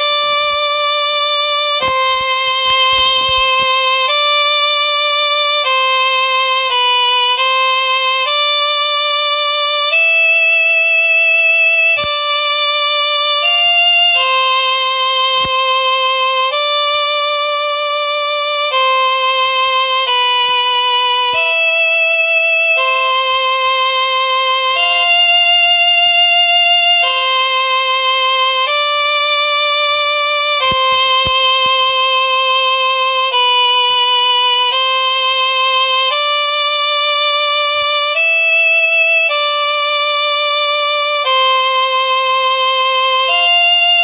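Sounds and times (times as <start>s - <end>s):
ringtone melody of long notes: 0.0s - 44.0s.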